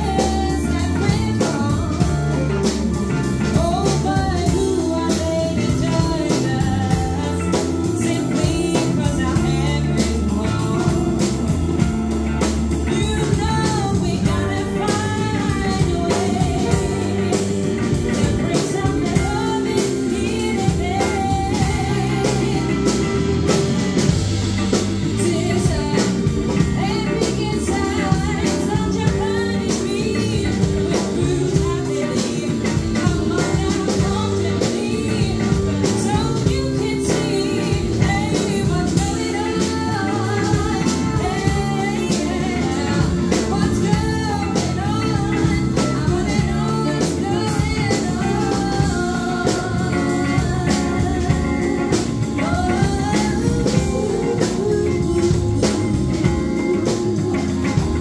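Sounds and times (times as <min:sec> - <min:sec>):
drums keeping a steady beat: 0:00.0 - 0:58.0
electric guitars: 0:00.0 - 0:58.0
keyboard: 0:00.0 - 0:58.0
woman singing: 0:00.0 - 0:58.0.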